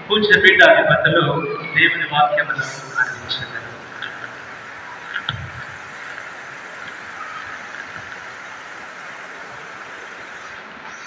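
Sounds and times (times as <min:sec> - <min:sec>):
crowded hall background noise: 0:00.0 - 0:11.0.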